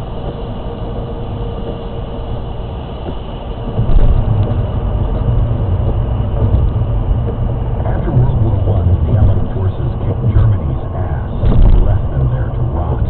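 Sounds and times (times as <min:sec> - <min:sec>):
car road noise on wet pavement: 0:00.0 - 0:13.0.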